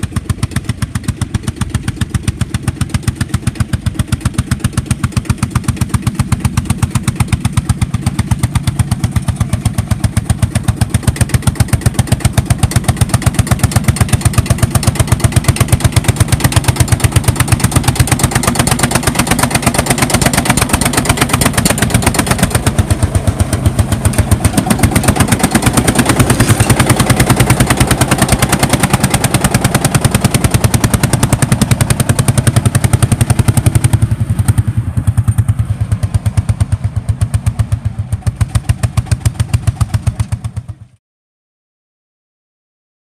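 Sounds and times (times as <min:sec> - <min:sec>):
tractor engine exhaust thumps: 0:00.0 - 0:41.0.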